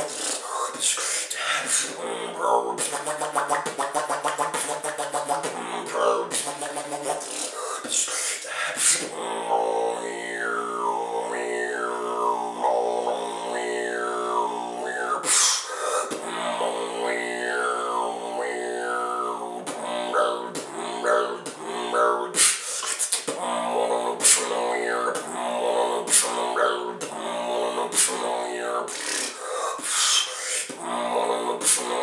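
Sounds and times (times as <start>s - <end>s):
vocal beatboxing: 0.0s - 32.0s.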